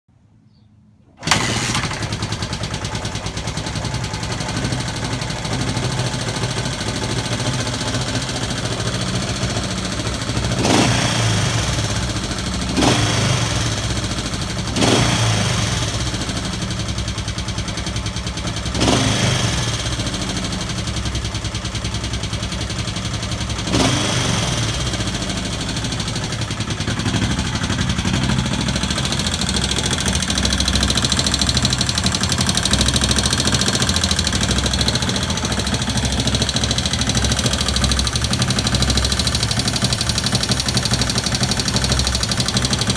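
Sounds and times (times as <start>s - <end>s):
motorcycle engine idling: 1.2s - 42.9s.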